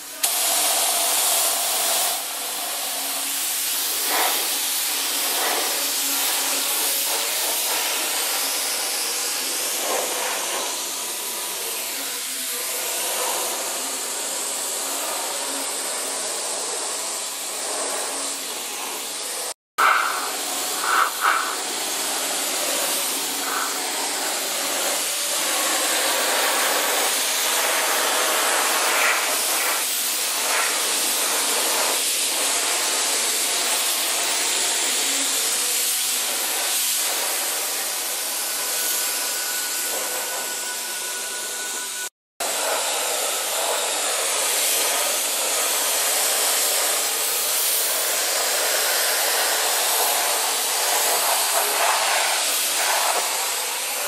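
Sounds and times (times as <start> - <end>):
spray gun hissing: 0.0 - 38.1, 42.6 - 54.0.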